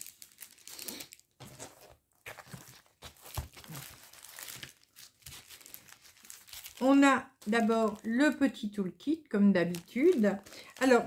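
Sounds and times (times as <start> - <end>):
packaging rustling and crinkling: 0.0 - 8.3, 9.7 - 11.0.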